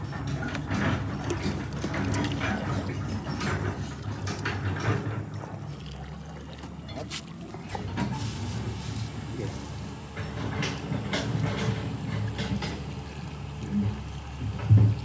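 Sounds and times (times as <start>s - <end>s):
oil pouring and splashing: 0.0s - 15.0s.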